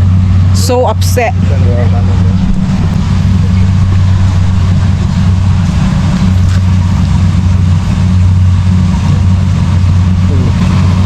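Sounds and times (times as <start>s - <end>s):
harvester engine humming: 0.0s - 11.0s.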